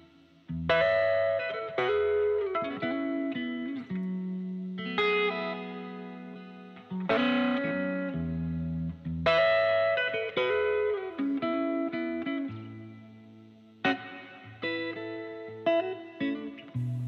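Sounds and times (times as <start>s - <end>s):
guitar plucking notes and chords: 0.0s - 17.0s.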